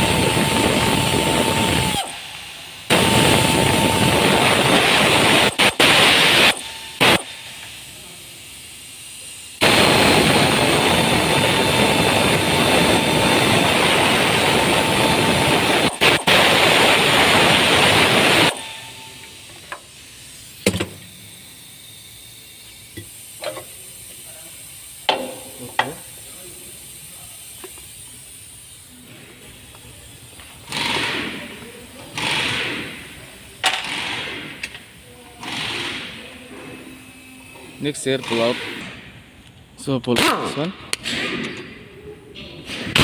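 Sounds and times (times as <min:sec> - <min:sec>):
air tool hissing and whining: 0:00.0 - 0:40.0.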